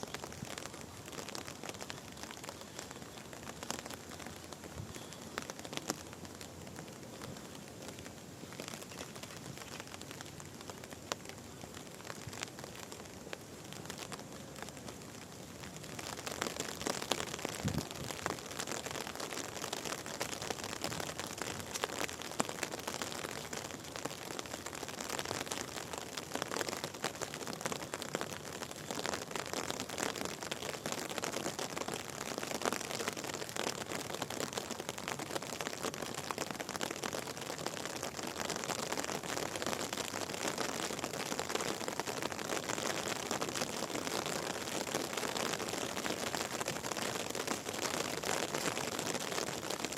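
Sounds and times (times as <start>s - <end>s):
steady rain patter: 0.0s - 49.9s.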